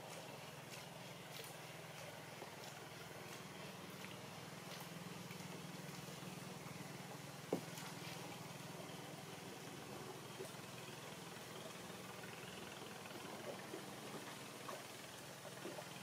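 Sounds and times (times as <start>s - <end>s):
distant engine hum: 0.0s - 16.0s.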